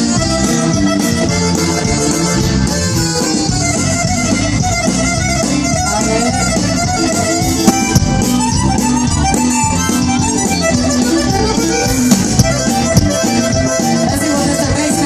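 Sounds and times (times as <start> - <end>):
band playing live instrumental: 0.0 - 15.0.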